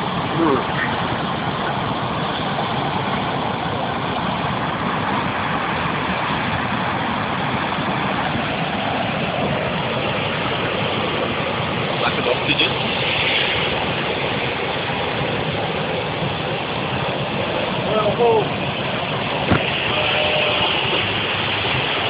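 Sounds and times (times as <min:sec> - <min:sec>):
floodwater rushing through outlet: 0:00.0 - 0:22.0.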